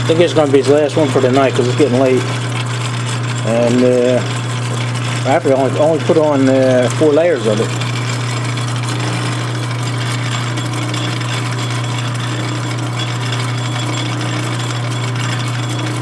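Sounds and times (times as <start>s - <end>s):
lathe motor humming: 0.0s - 16.0s.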